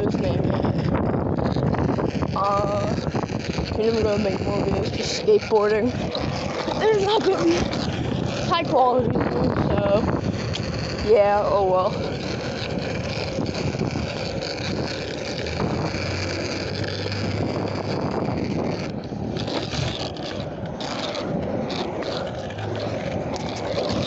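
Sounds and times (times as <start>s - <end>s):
skateboard wheels rolling on pavement: 0.0s - 24.0s.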